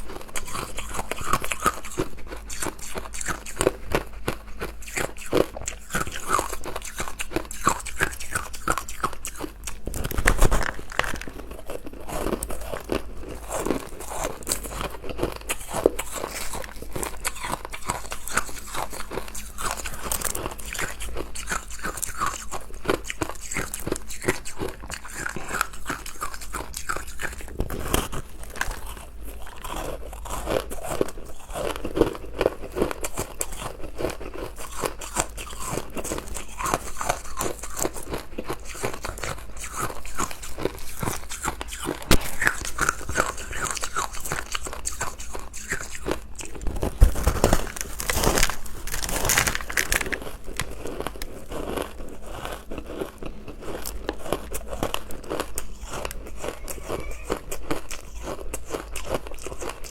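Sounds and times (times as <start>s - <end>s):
chewing crunchy ice: 0.0s - 59.9s.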